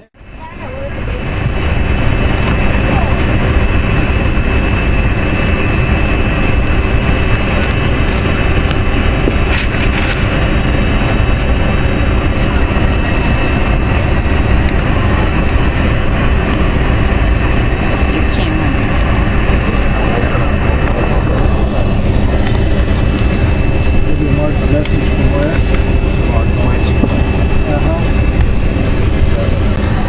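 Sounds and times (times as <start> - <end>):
jet engine rumble and airflow: 0.0 - 30.0
steady high whine: 0.0 - 30.0.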